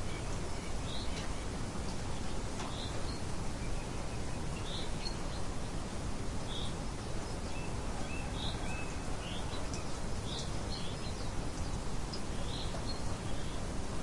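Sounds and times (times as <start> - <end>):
small birds chirping: 0.0 - 5.6, 6.4 - 13.7
rain hiss: 0.0 - 14.0.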